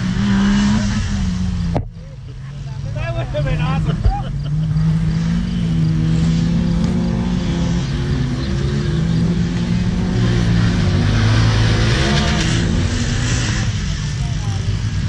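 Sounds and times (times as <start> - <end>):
buggy engine racing: 0.0 - 15.0.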